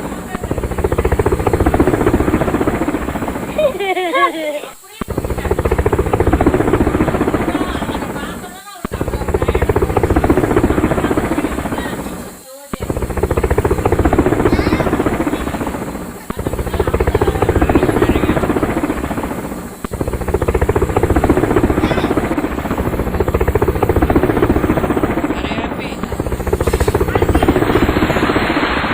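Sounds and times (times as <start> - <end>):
toy helicopter rotor sound effect: 0.0 - 28.9.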